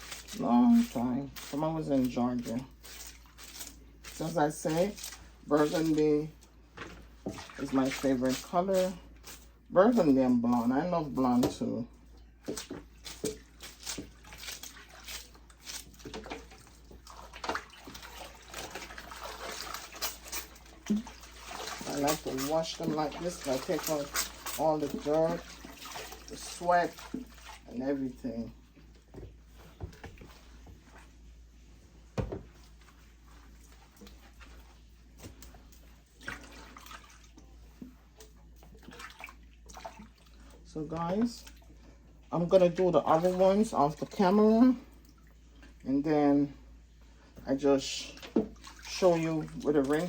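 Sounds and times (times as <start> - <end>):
water sloshing and splashing: 0.0 - 50.0.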